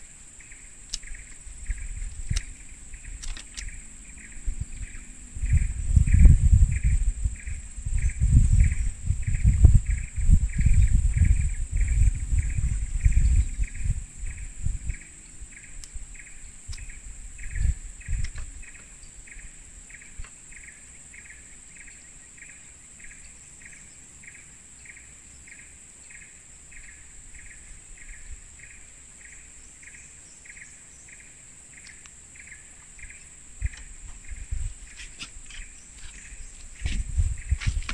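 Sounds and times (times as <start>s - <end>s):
rhythmic insect chirp: 0.0s - 37.9s.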